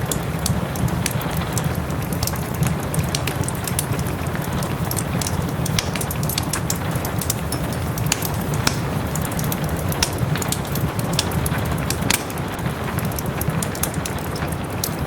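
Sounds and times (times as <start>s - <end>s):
soft rain: 0.0s - 15.0s
wood fire crackling: 0.0s - 15.0s.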